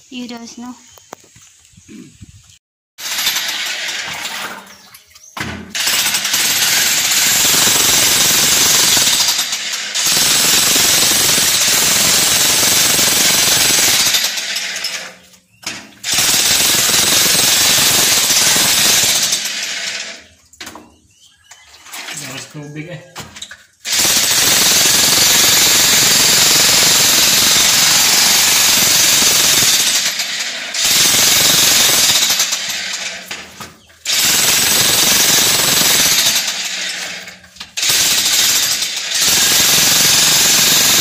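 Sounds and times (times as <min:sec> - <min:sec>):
jackhammer hammering: 0:03.0 - 0:04.7, 0:05.4 - 0:20.3, 0:23.8 - 0:41.0.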